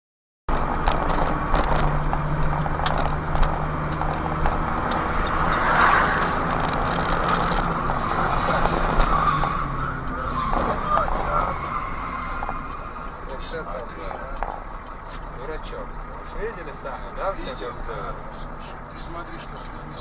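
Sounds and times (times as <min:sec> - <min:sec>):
car engine hum: 0:00.5 - 0:20.0
road noise: 0:00.5 - 0:20.0.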